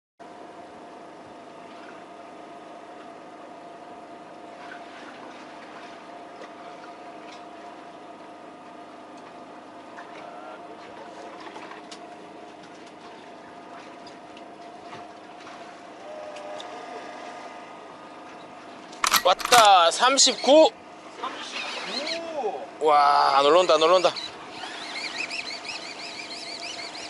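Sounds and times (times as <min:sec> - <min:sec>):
boat motor humming: 0:00.3 - 0:27.0.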